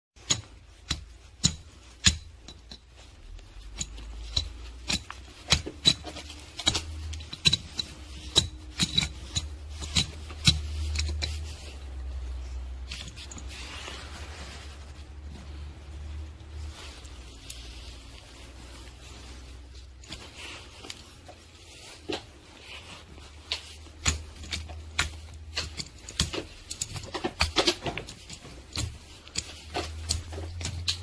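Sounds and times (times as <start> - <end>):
tool scraping hardened cat litter: 0.2 - 31.0.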